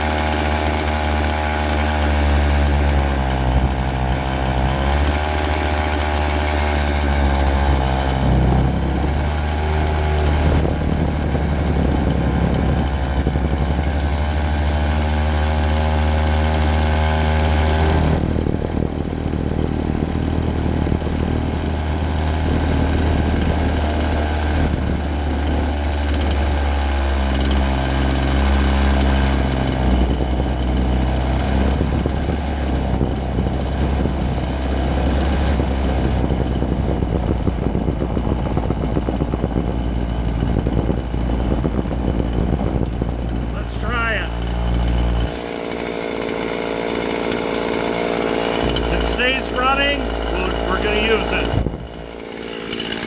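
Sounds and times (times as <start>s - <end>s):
chainsaw idling: 0.0s - 53.0s.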